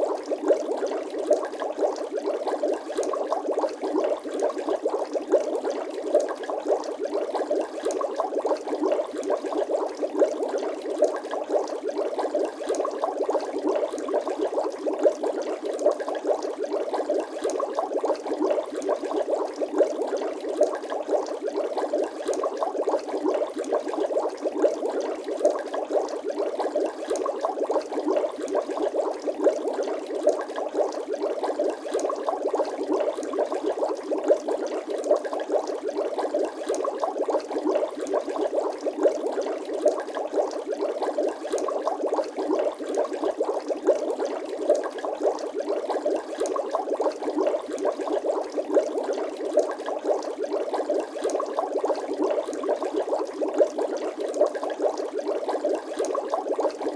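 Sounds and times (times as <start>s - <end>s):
water bubbling: 0.0s - 56.9s.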